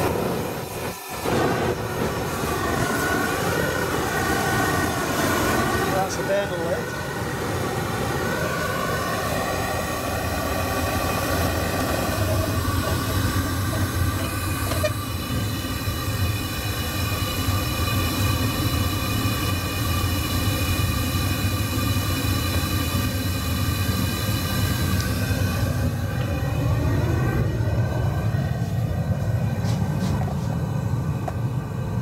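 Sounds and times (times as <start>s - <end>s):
gas burner roaring: 0.0s - 32.0s.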